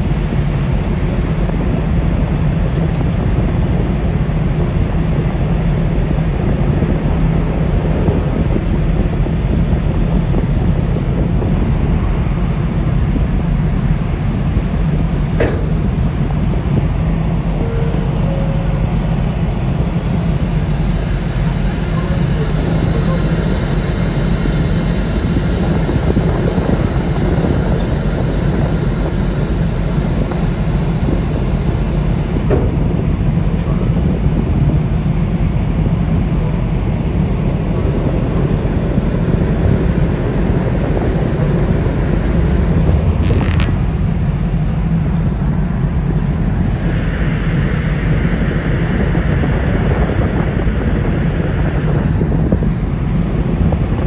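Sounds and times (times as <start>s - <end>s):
ship engines droning: 0.0s - 54.0s.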